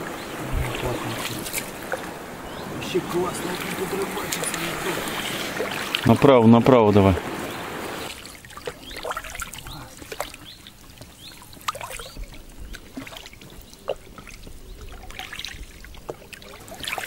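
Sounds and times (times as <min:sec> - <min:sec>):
paddle splashing in water: 0:00.0 - 0:17.0
water dripping off paddle: 0:00.0 - 0:17.0.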